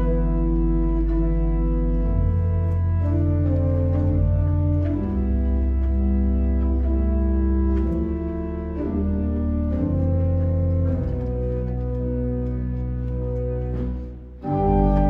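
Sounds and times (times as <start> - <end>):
organ chords over held bass: 0.0 - 15.0.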